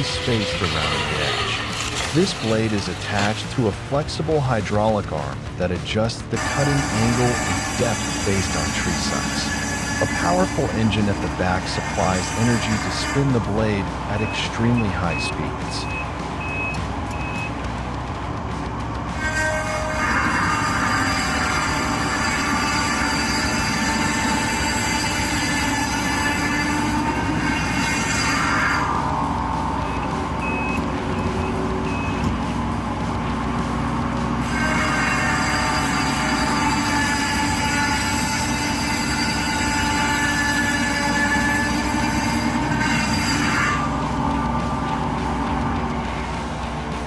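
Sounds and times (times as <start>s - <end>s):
high-pitched metallic squeal: 0.0s - 4.8s, 6.3s - 17.7s, 18.7s - 46.9s
heavy machine rumbling: 0.0s - 47.0s
high steady whining tones: 0.0s - 47.0s.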